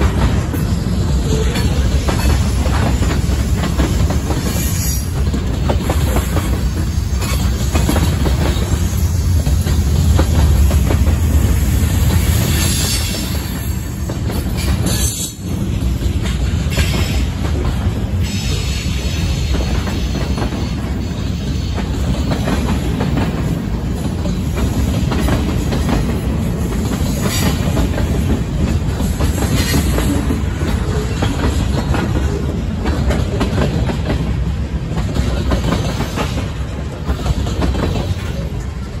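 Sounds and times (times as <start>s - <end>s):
freight cars rolling on rails: 0.0s - 39.0s
wheels clacking over rail joints: 0.0s - 39.0s.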